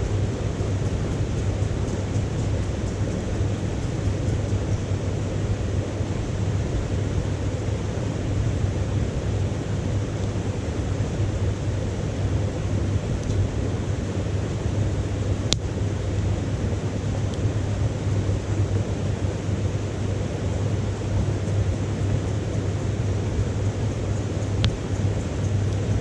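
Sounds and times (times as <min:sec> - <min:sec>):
burning wood crackle: 0:00.0 - 0:26.0
wood stove fire roaring: 0:00.0 - 0:26.0.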